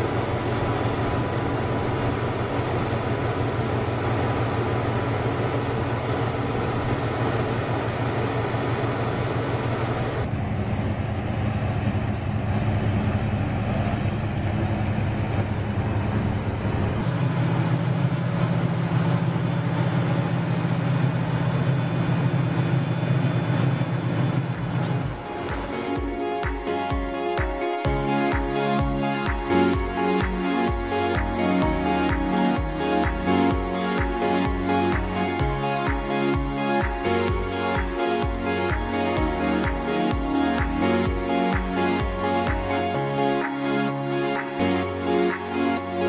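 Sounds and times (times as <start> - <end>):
paving machine engine running: 0.0 - 45.6
concrete mixer truck: 0.0 - 46.0.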